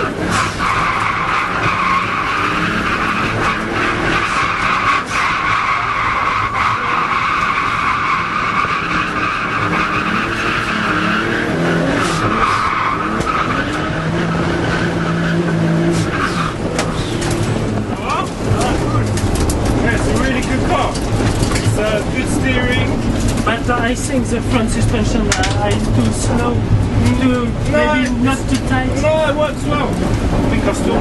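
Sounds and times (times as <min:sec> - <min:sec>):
car engine revving: 0:00.0 - 0:31.0
tyres squealing: 0:00.0 - 0:31.0.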